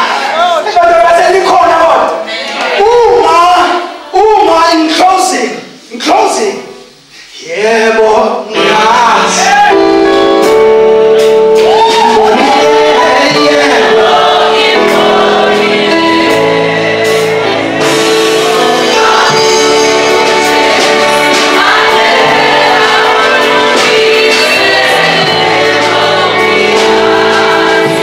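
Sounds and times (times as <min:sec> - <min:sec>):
gospel singing: 0:00.0 - 0:28.0.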